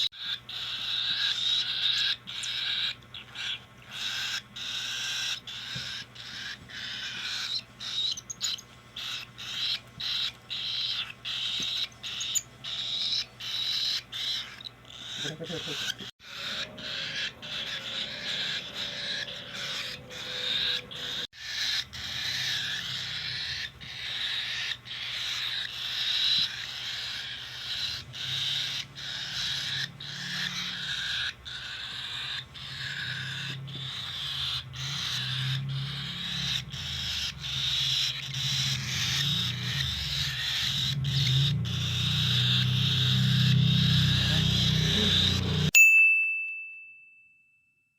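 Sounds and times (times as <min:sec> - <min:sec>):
cockatiel chick begging calls: 0:00.1 - 0:45.7.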